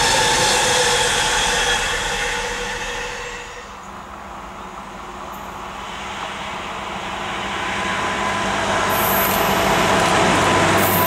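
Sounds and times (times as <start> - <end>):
high squeal: 0.0 - 4.1, 5.4 - 11.0
diesel locomotive engine drone: 0.0 - 11.0
train wheel noise: 0.0 - 11.0.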